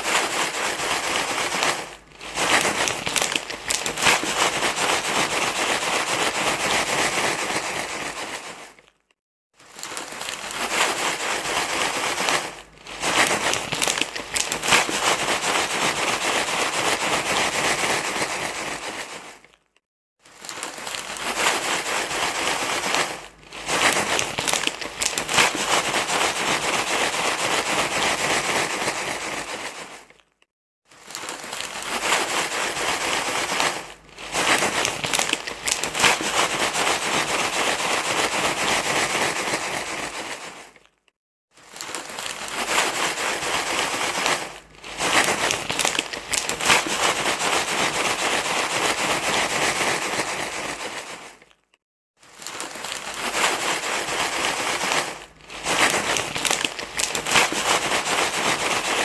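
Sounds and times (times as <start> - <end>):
loud crinkling rustle: 0.0 - 59.0.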